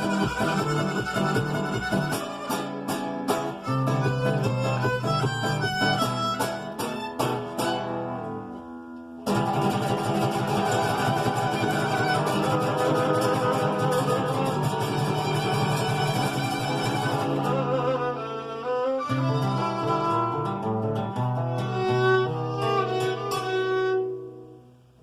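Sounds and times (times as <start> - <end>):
violin bowed notes: 0.0 - 8.1, 10.5 - 24.4
plucked string notes: 0.0 - 24.7.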